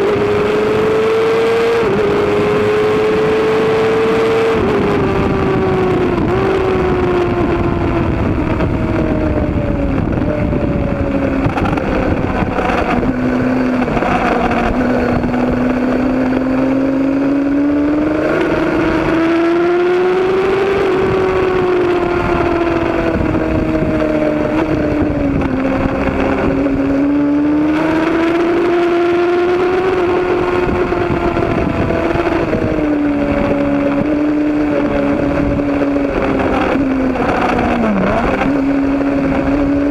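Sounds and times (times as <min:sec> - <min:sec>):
motorcycle engine revving high: 0:00.0 - 0:39.9
wind noise: 0:00.0 - 0:39.9.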